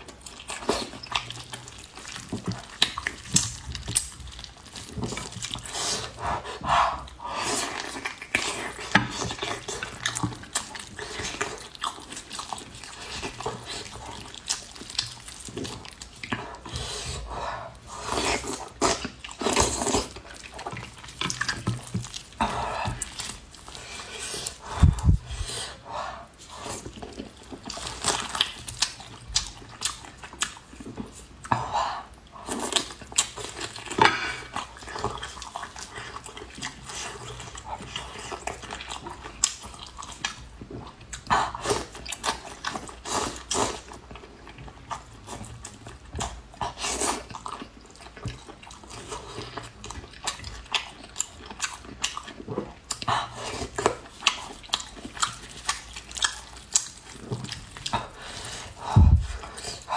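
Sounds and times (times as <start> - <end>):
chewing and eating sounds: 0.0 - 59.9.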